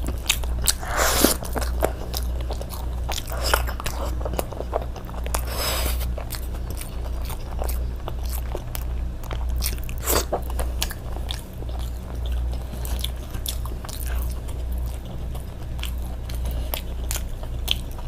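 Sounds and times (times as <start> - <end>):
person chewing: 0.0 - 18.0
steady low hum: 0.0 - 18.0.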